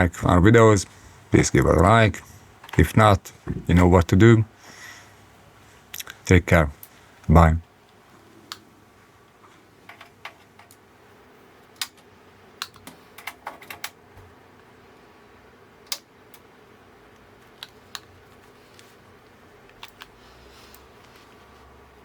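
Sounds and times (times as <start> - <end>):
faint background hiss: 0.0 - 22.0.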